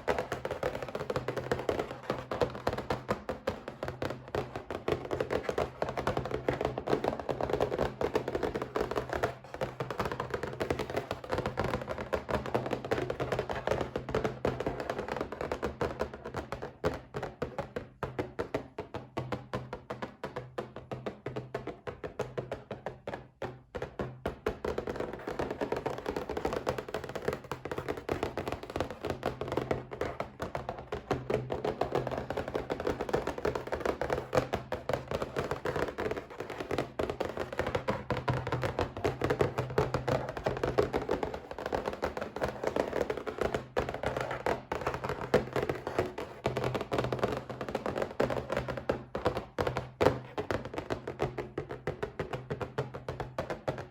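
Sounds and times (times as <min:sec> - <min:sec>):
rapid tapping on a box: 0:00.0 - 0:53.9.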